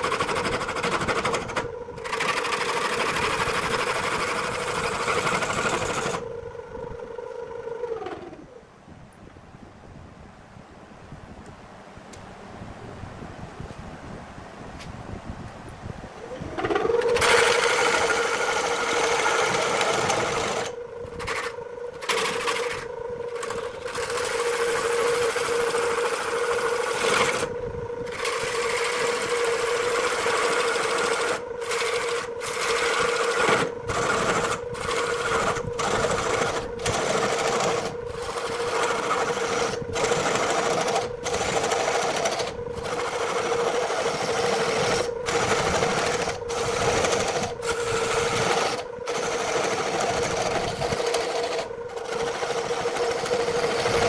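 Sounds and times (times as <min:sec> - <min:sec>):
lathe motor humming: 0:00.0 - 0:08.6, 0:15.9 - 0:54.0.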